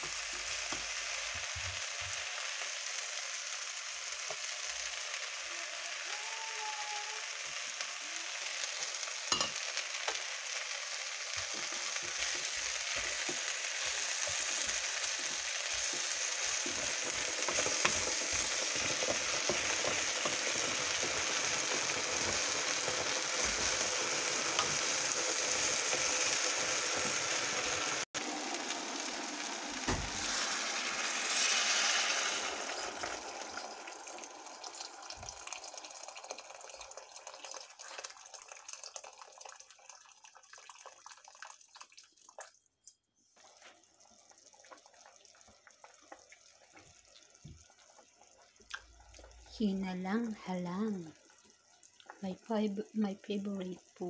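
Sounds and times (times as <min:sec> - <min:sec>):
meat sizzling in a pan: 0:00.0 - 0:42.5, 0:43.4 - 0:54.0.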